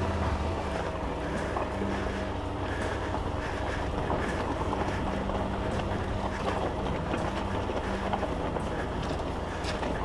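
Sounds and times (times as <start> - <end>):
motorcycle engine running: 0.0 - 10.0
rock crackling under tyres: 0.6 - 10.0.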